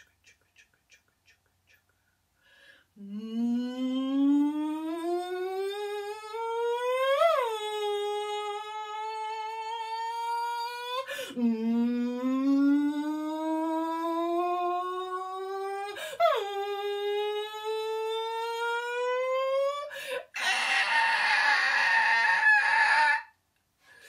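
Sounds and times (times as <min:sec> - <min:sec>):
woman imitating a siren: 0:03.0 - 0:23.3.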